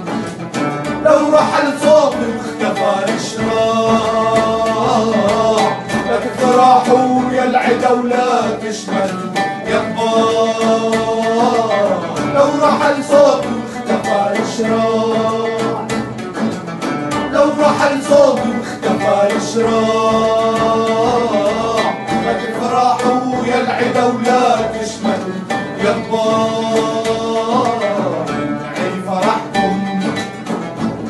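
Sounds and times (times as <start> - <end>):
men singing together: 0.0 - 30.8
frame drum: 0.0 - 31.0
plucked oud: 0.0 - 31.0
strummed guitar: 0.0 - 31.0.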